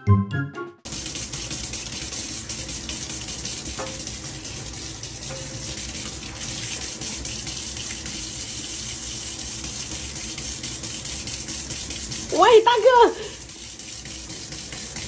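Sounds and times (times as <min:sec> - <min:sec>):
faucet running into steel sink: 0:00.9 - 0:15.0
water splashing: 0:00.9 - 0:15.0.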